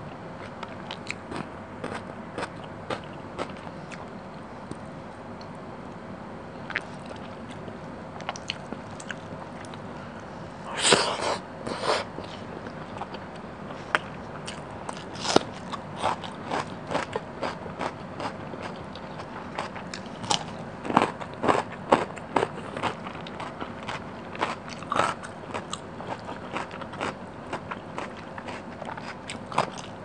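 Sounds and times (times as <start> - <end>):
chewing with wet mouth clicks: 0.4 - 4.1, 6.7 - 7.6, 8.2 - 9.8, 12.2 - 30.0.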